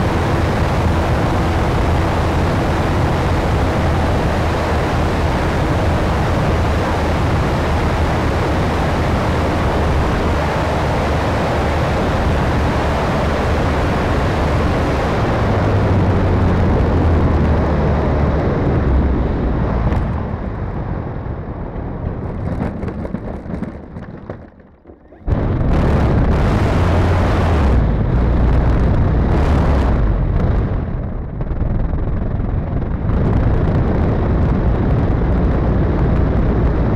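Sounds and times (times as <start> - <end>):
loud low rumble: 0.0 - 24.0, 25.2 - 36.9
propeller and motor rushing: 0.0 - 36.9
wind buffeting camera: 0.0 - 36.9.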